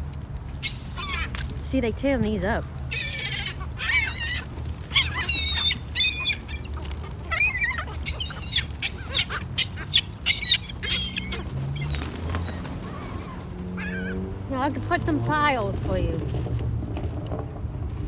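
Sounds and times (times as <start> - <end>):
gulls calling: 0.0 - 16.4.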